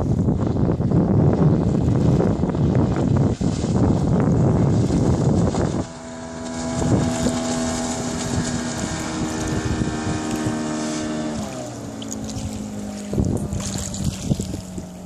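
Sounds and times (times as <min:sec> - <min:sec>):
outboard motor humming: 0:00.0 - 0:15.0
wind and water rushing: 0:00.0 - 0:15.0.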